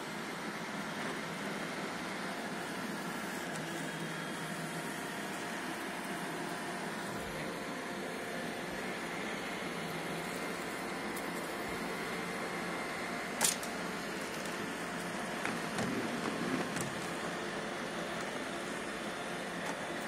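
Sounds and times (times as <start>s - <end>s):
robot vacuum whirring: 0.4s - 20.0s.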